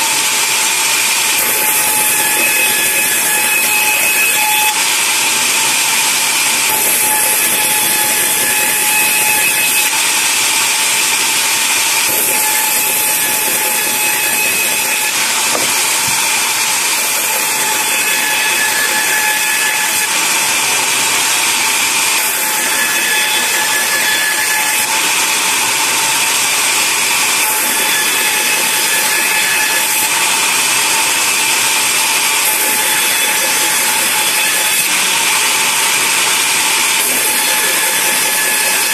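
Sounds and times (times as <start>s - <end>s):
sawmill running: 0.0s - 38.9s.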